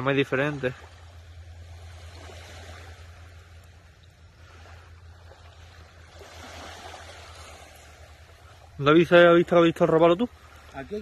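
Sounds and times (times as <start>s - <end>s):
small waves washing on beach: 0.0s - 11.0s
steady low hum: 0.0s - 11.0s.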